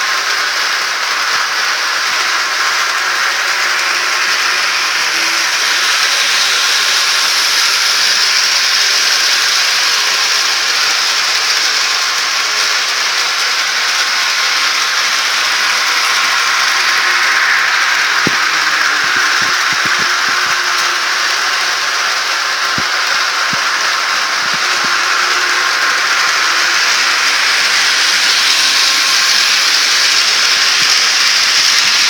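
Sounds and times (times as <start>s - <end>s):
model train motor whirring: 0.0s - 32.0s.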